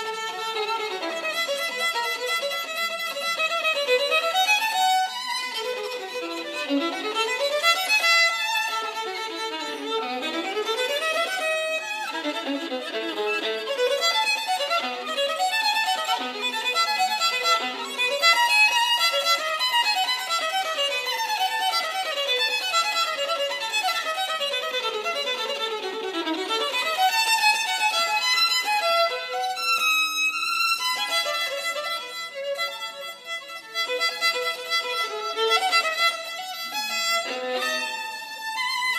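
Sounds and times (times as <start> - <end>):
solo violin fast passages: 0.0 - 38.9.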